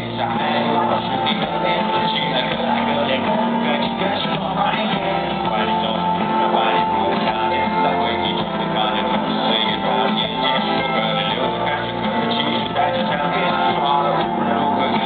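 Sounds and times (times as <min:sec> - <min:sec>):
rock band playing live: 0:00.0 - 0:15.0
strummed guitars: 0:00.0 - 0:15.0.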